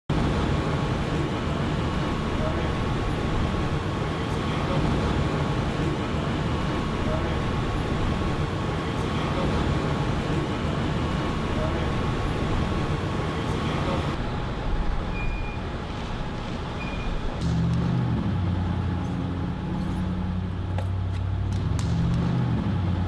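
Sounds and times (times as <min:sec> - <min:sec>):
low rumble of traffic: 0:00.0 - 0:23.0.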